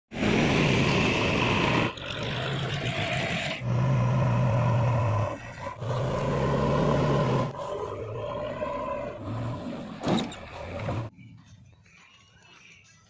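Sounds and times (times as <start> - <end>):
diesel engines running under load: 0.1 - 11.2.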